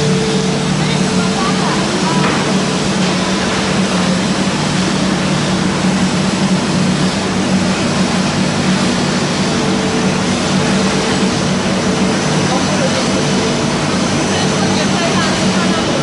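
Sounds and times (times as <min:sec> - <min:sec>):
constant low hum: 0:00.0 - 0:16.0
industrial motors and blowers: 0:00.0 - 0:16.0.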